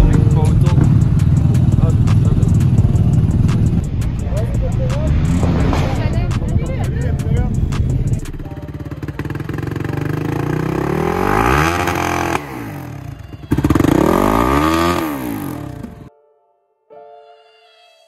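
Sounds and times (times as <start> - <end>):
quad bike engine revving: 0.0 - 16.1.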